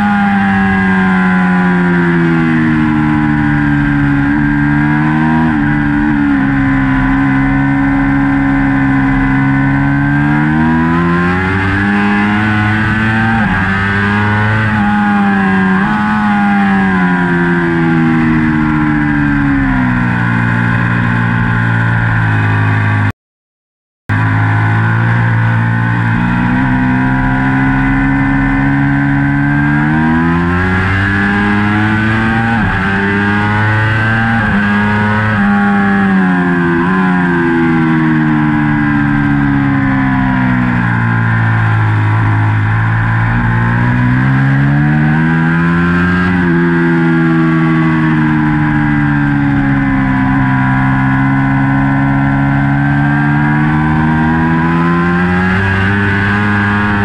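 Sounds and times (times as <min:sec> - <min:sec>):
motorcycle engine revving: 0:00.0 - 0:23.1, 0:24.1 - 0:57.0.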